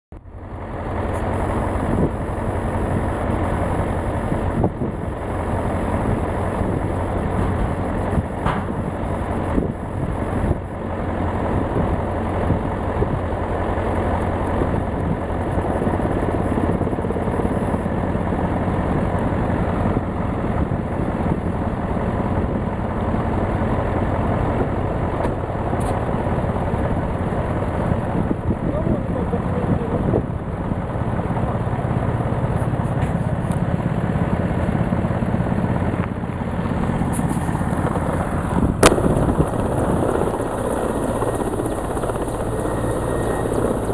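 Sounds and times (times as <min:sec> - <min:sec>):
helicopter engine and rotor: 0:00.2 - 0:43.9.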